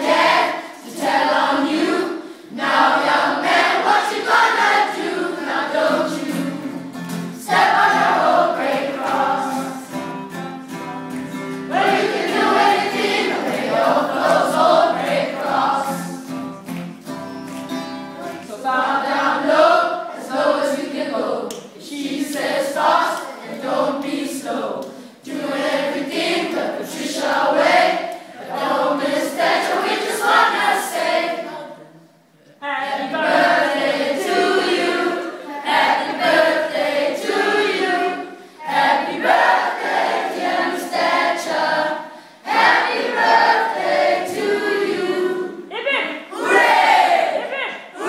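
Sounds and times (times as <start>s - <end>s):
boys singing in chorus: 0.0s - 6.8s, 7.4s - 10.0s, 11.7s - 16.2s, 18.5s - 31.8s, 32.9s - 45.7s.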